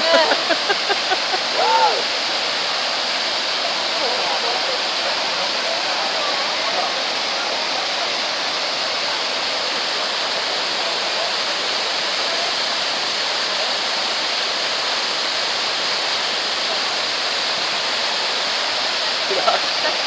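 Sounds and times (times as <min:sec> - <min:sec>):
water rushing over a weir: 0:00.0 - 0:20.0.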